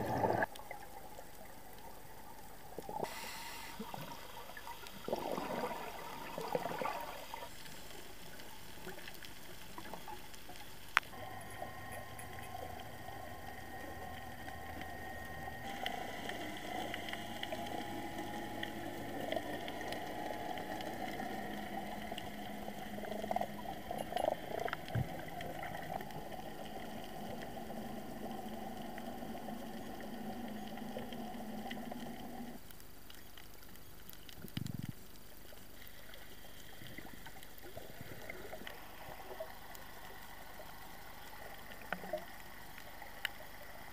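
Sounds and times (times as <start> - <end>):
faint steady tones: 0.0 - 43.9
muffled underwater hum and hiss: 0.0 - 43.9
clicks and gurgles: 3.8 - 43.8.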